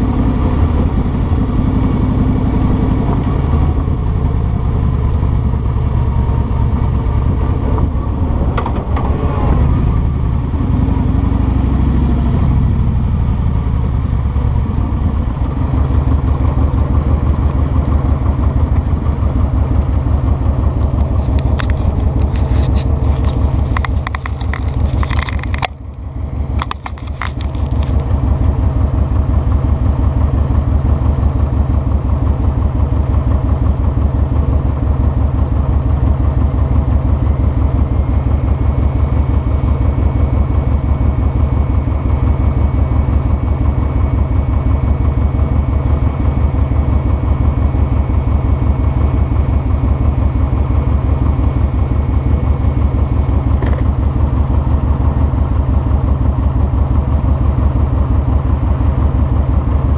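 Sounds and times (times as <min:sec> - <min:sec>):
motorcycle engine idling: 0:00.0 - 0:08.7, 0:12.4 - 0:59.9.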